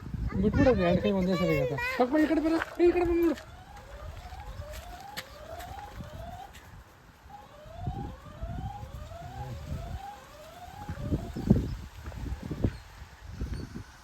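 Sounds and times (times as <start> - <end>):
siren in rising sweeps: 1.5 - 13.4.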